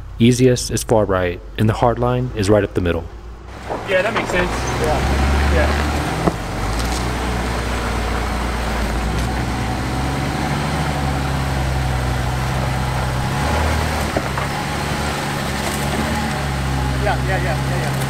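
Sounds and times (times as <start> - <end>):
truck engine running low: 3.5 - 18.0.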